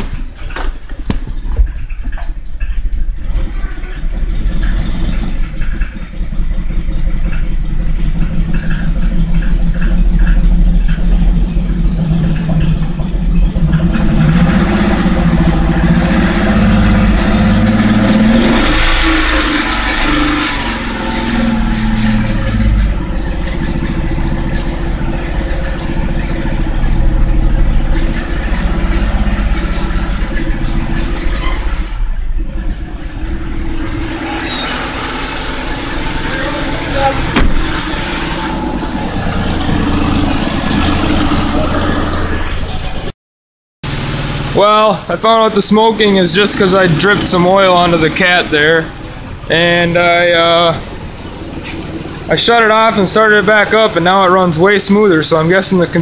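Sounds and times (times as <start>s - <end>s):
car engine running roughly: 0.0s - 43.1s, 43.8s - 56.0s.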